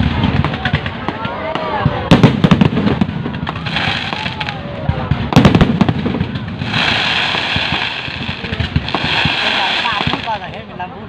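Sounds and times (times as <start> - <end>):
fireworks bangs and crackles: 0.0 - 10.9
crowd voices: 0.0 - 11.0.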